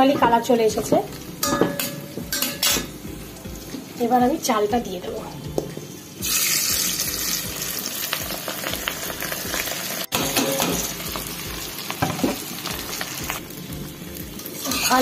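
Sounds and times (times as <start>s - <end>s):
rice sizzling in hot fat: 0.0s - 15.0s.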